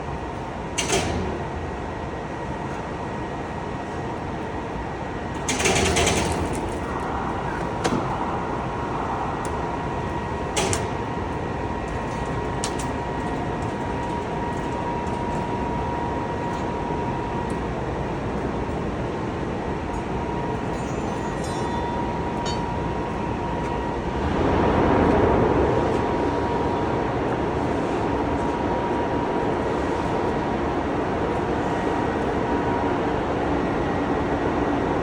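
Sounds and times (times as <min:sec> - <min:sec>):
factory machinery whine: 0:00.0 - 0:35.0.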